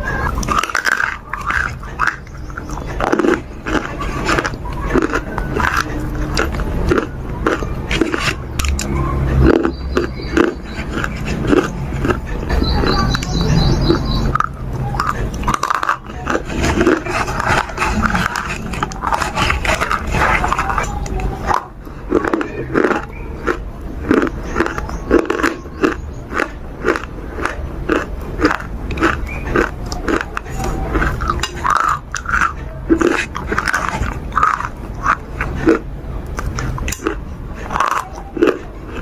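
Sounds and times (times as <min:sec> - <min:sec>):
chewing and crunching chalk: 0:00.0 - 0:39.0.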